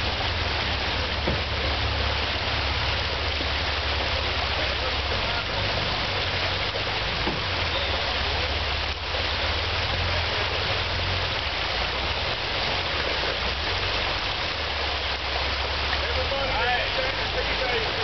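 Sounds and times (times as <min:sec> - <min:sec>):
creek water over rocks: 0:00.0 - 0:18.0
low engine rumble: 0:00.0 - 0:18.0.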